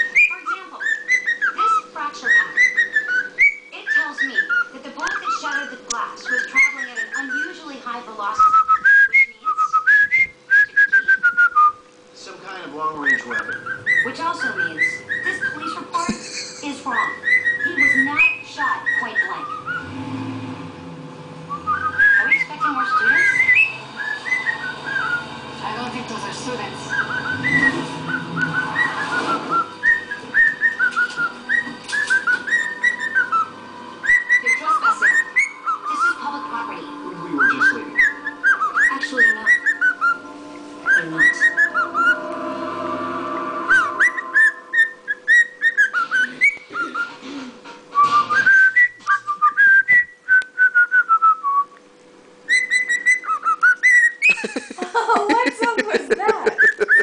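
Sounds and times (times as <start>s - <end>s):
cockatiel whistling: 0.0s - 7.6s, 8.3s - 11.8s, 12.8s - 15.9s, 16.9s - 20.0s, 21.5s - 25.3s, 26.8s - 36.3s, 37.2s - 43.0s, 43.6s - 47.2s, 47.9s - 51.8s, 52.4s - 54.7s, 56.5s - 57.0s.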